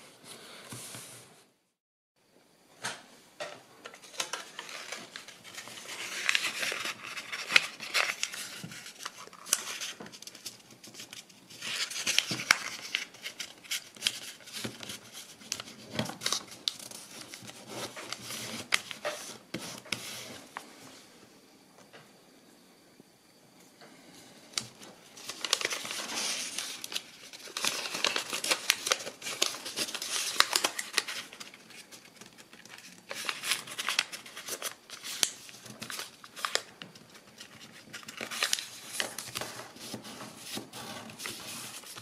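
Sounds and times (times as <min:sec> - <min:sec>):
paper crinkling and crackling: 0:03.8 - 0:20.7, 0:24.6 - 0:42.0.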